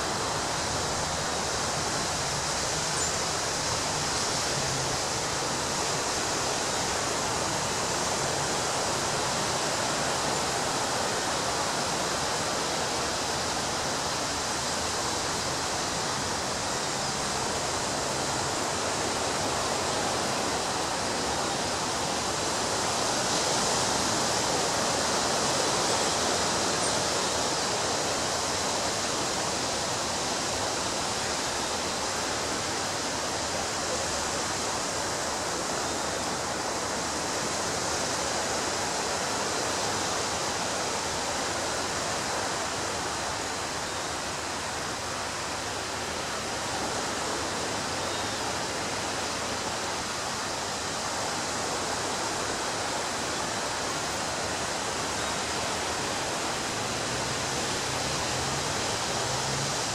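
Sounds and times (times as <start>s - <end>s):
ocean surf washing on beach: 0.0s - 59.9s.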